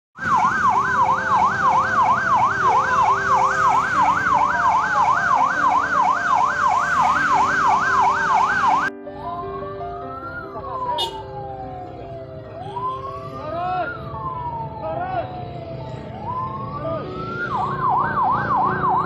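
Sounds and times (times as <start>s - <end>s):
fire truck siren yelping: 0.2s - 8.9s, 10.0s - 19.0s.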